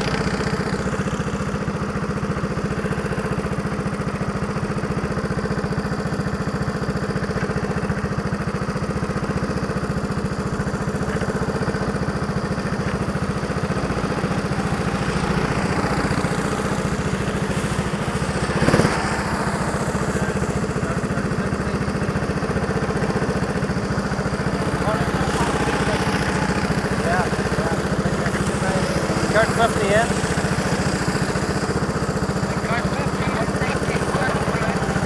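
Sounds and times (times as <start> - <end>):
go-kart engine running: 0.0 - 35.0.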